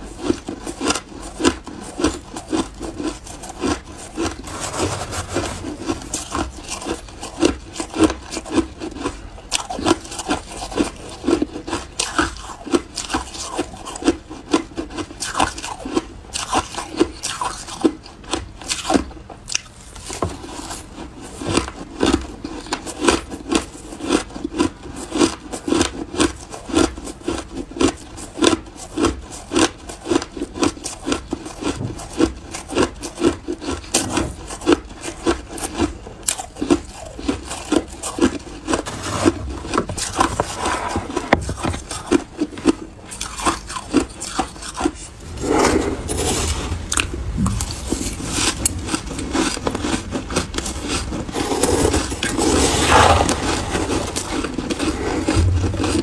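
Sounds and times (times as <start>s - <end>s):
chewing crunchy ice: 0.0s - 56.0s.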